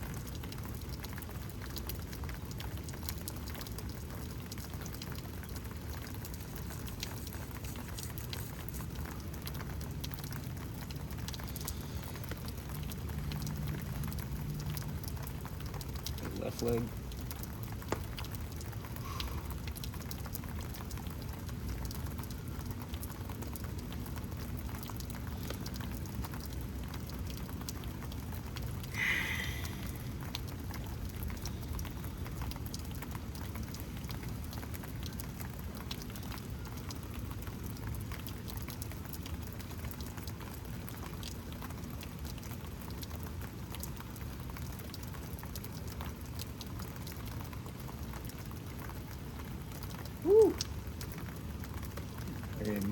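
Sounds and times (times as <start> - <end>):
rain drops pattering: 0.0 - 52.9.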